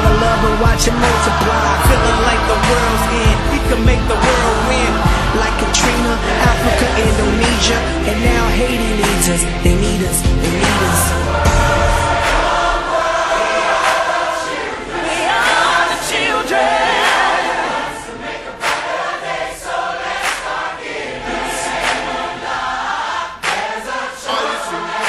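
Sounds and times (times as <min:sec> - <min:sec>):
backing music: 0:00.0 - 0:25.0
choir singing: 0:00.0 - 0:25.0.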